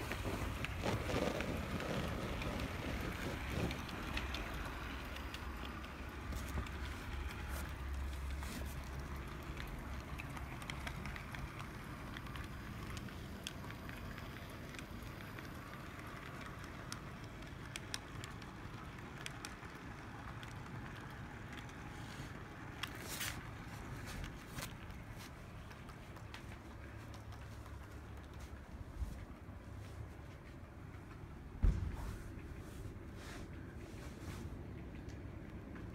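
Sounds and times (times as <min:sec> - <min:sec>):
model train running hum: 0:00.0 - 0:28.8
wheels clicking on rails: 0:00.0 - 0:35.9.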